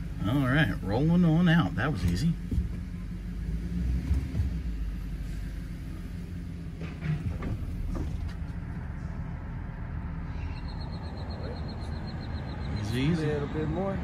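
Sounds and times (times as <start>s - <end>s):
truck engine running at low speed: 0.0s - 14.0s.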